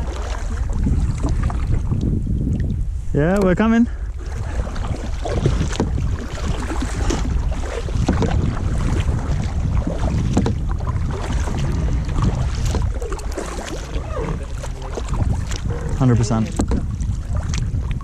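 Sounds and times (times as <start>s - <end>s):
paddle splashes and knocks: 0.0s - 18.0s
wind buffeting microphone: 0.0s - 18.0s.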